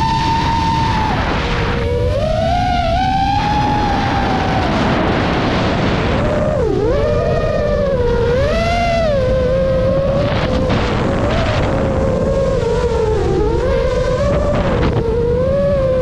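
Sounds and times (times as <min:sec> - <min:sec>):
drone propellers whining: 0:00.0 - 0:16.0
wind rumble: 0:00.0 - 0:16.0.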